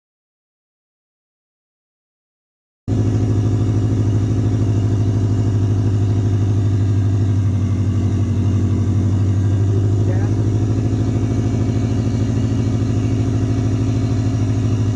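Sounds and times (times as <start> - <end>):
car engine idling: 2.9 - 14.9.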